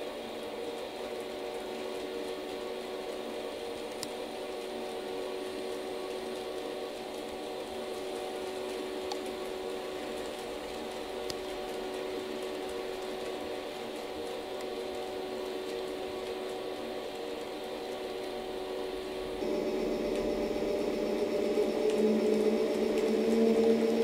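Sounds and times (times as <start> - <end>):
model train hum: 0.0 - 24.0.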